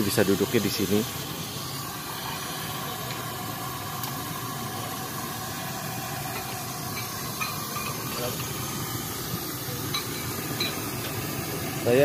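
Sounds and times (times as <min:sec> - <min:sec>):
steady hissing noise: 0:00.0 - 0:12.0.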